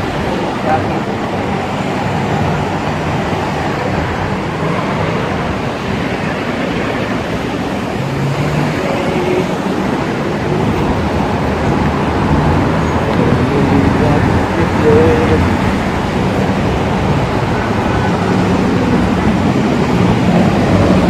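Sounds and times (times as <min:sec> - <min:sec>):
passing vehicle engines humming: 0:00.0 - 0:21.0
tyres rushing on road: 0:00.0 - 0:21.0.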